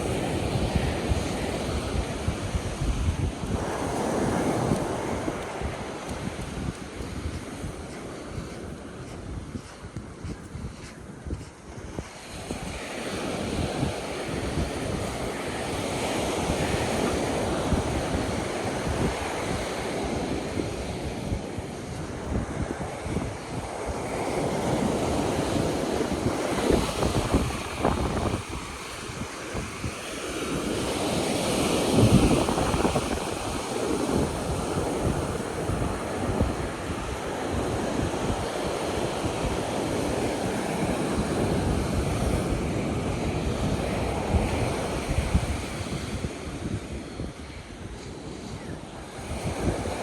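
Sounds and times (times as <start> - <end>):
ocean surf washing ashore: 0.0 - 50.0
wind buffeting microphone: 0.0 - 50.0.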